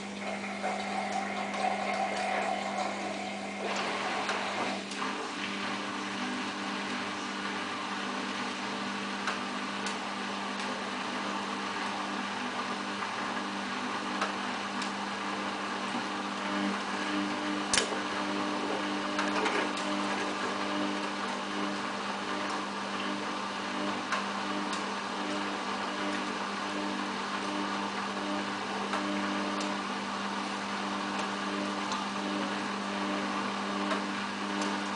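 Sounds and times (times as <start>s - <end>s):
washing machine motor hum: 0.0s - 34.9s.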